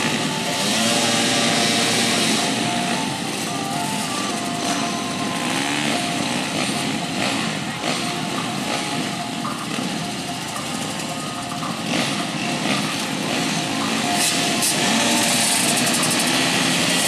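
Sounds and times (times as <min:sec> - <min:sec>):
engine throttle blips: 0:00.0 - 0:17.0
motocross bike engines idling: 0:00.0 - 0:17.0.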